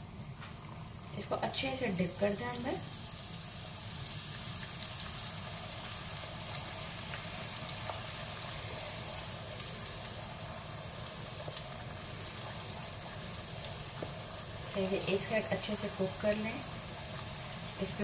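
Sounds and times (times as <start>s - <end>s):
dough deep-frying in oil: 0.0s - 18.0s.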